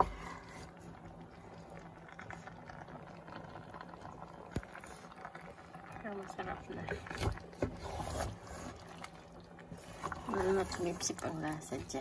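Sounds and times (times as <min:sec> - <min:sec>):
faint steady hum: 0:00.0 - 0:12.0
stew bubbling in a pot: 0:00.0 - 0:12.0.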